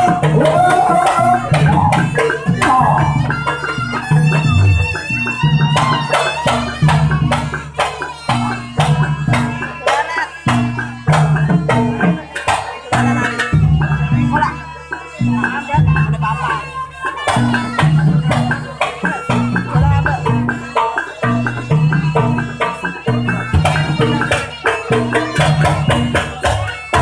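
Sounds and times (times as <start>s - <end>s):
hand drums beating: 0.0s - 27.0s
low repeating melodic figure: 0.0s - 27.0s.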